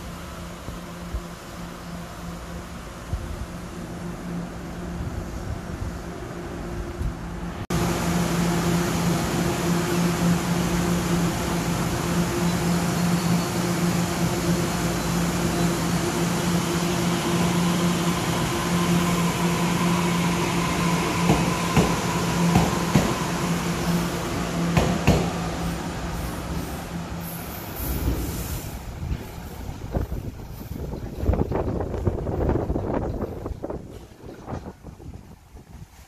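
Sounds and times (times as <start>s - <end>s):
electric train humming: 0.0s - 36.0s.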